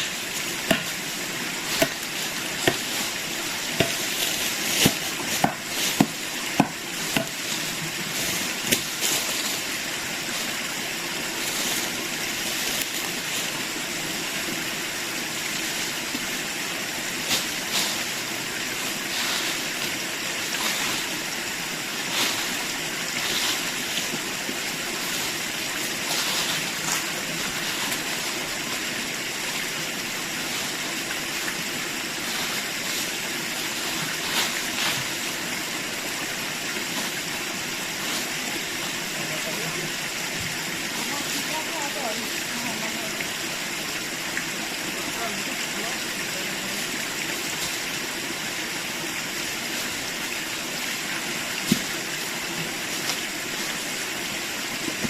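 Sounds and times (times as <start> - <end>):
flowing stream water rushing: 0.0 - 55.0.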